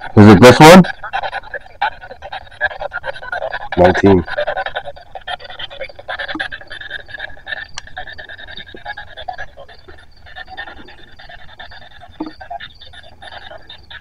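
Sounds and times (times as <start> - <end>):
chopped radio static: 0.0 - 14.0.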